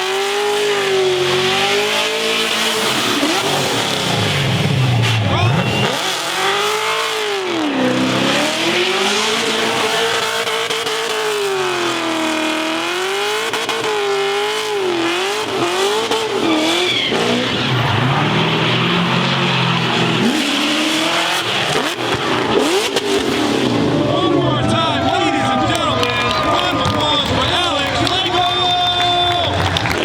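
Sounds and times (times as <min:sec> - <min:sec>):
car engine revving: 0:00.0 - 0:30.0
tyres spinning and squealing: 0:00.4 - 0:30.0.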